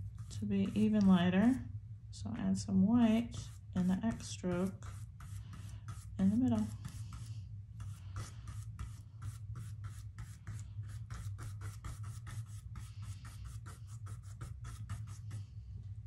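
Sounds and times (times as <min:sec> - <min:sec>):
paintbrush scrubbing on canvas: 0:00.0 - 0:01.7, 0:03.3 - 0:15.5
low steady hum: 0:00.0 - 0:16.0.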